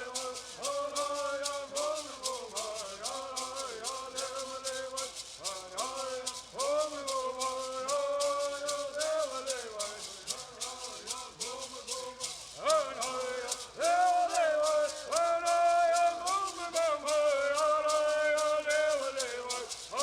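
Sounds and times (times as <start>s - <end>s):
gourd rattles shaken: 0.0s - 20.0s
voices singing in unison: 0.0s - 20.0s.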